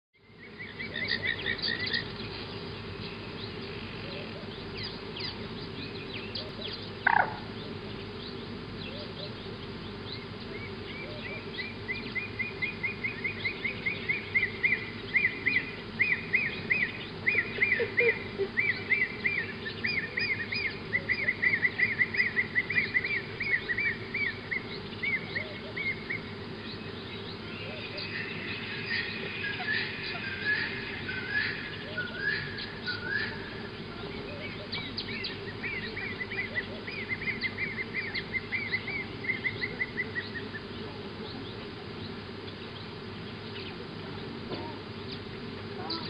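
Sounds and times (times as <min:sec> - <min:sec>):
steady low hum: 0:00.2 - 0:46.0
wild birds chirping: 0:00.2 - 0:46.0.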